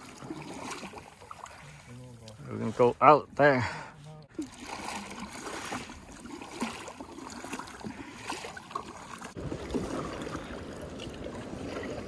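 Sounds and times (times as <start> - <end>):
paddle splashes: 0.0 - 2.8, 3.7 - 12.0
deep steady water rush: 0.0 - 12.0
water sloshing around kayak: 0.0 - 12.0.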